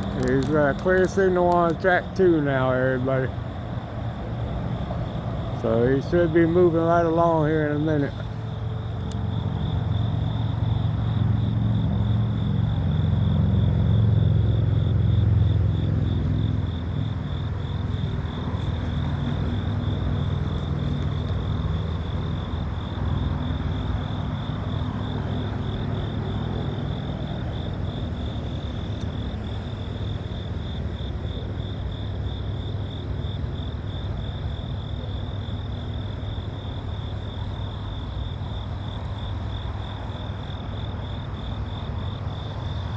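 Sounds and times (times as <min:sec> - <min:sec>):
diesel locomotive idling: 0:00.0 - 0:42.9
insects pulsing chorus: 0:00.0 - 0:42.9.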